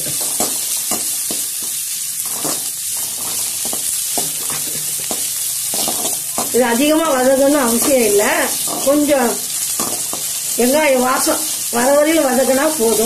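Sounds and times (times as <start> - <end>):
spoon scraping a pan: 0.0 - 10.6
onions sizzling in hot oil: 0.0 - 13.0.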